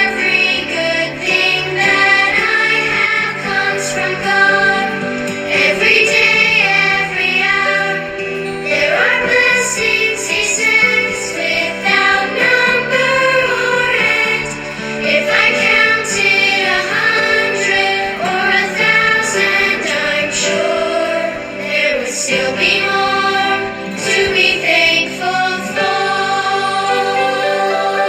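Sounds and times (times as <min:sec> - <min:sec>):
christian song with singing: 0:00.0 - 0:28.0.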